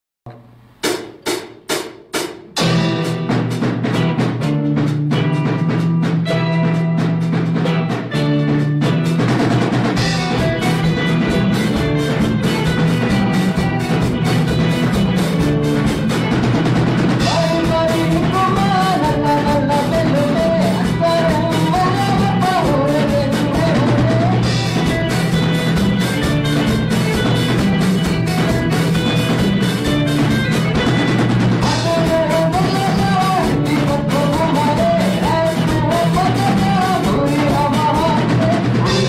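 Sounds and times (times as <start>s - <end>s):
drum kit beat: 0.2s - 39.0s
bass line and chords: 2.6s - 39.0s.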